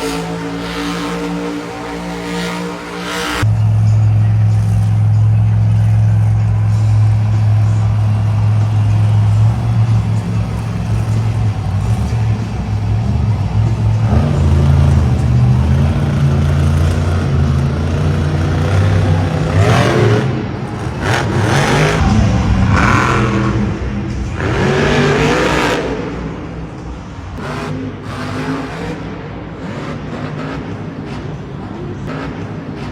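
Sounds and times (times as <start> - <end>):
monster truck engine revving: 0.0 - 32.9.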